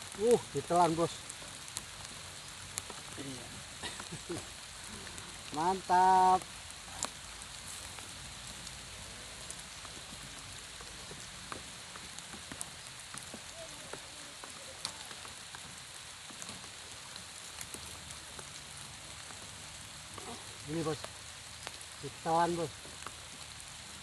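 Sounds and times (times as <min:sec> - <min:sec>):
rain falling on water and grass: 0:00.0 - 0:24.0.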